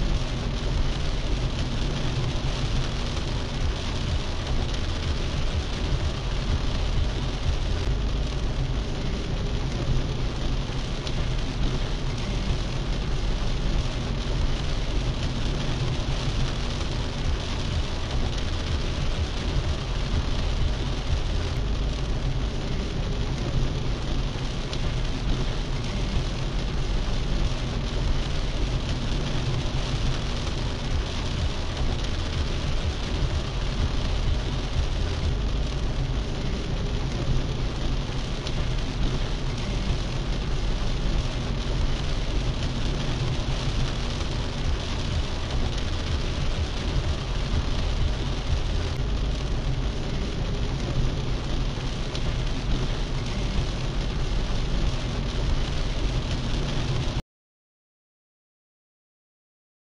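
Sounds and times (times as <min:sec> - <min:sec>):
rain hissing on car: 0:00.0 - 0:57.2
tyres rumbling on wet road: 0:00.0 - 0:57.2.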